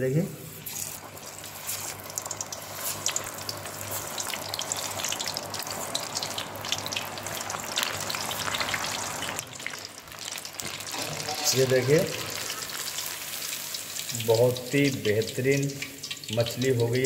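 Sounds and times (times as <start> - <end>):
fish deep-frying in hot oil: 0.4 - 17.0.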